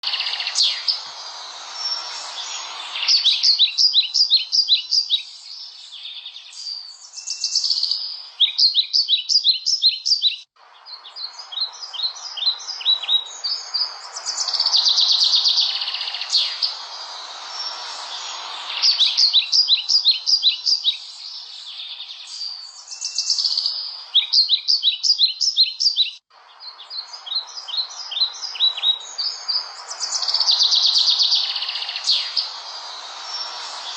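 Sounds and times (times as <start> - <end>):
steady background hiss: 0.0 - 6.0, 10.6 - 24.2, 26.3 - 33.9
songbirds chirping: 0.0 - 33.9.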